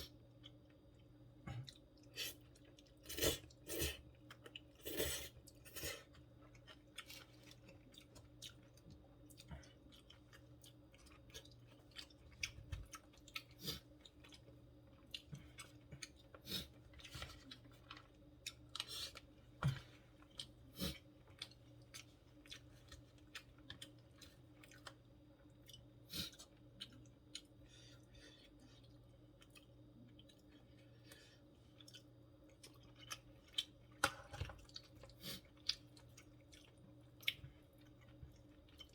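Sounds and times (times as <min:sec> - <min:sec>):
faint steady hum: 0:00.0 - 0:38.9
person chewing: 0:00.0 - 0:38.9.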